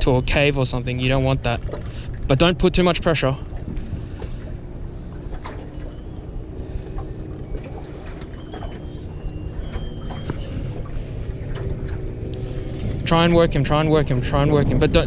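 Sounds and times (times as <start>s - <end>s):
water lapping against boat: 0.0s - 15.0s
wind rumbling: 0.0s - 15.0s.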